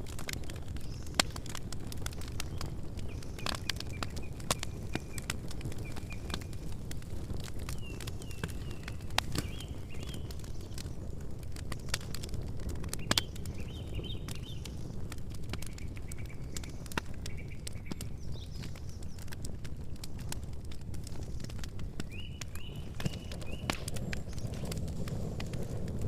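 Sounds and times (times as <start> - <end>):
campfire crackling and popping: 0.0 - 26.0
small birds chirping: 0.3 - 25.7.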